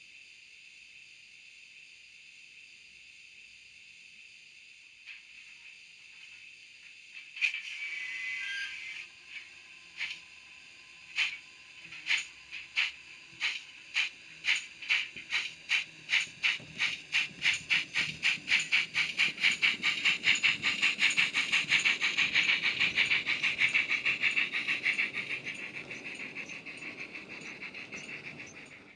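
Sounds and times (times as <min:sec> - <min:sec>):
steam locomotive exhaust beats: 0:05.0 - 0:28.9.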